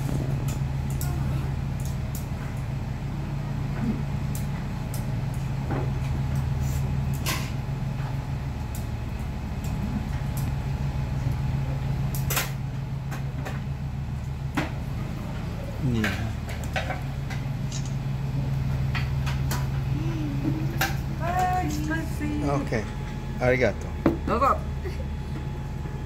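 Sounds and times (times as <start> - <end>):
kitchen equipment humming: 0.0 - 26.0.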